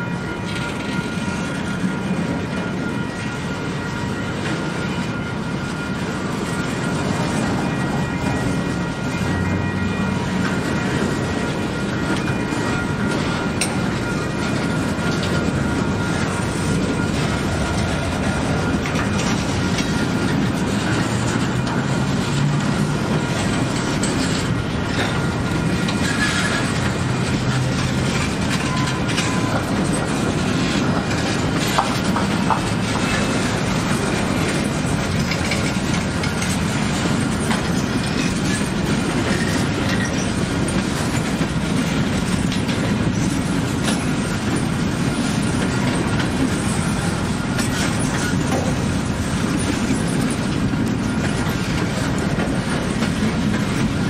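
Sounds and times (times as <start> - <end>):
faint high wheel squeal: 0.0 - 54.0
freight train rumbling: 0.0 - 54.0
steel wheels clattering over rail joints: 0.0 - 54.0.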